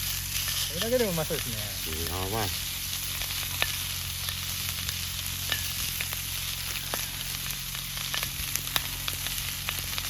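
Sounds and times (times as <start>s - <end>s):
bacon sizzling in a frying pan: 0.0s - 10.0s.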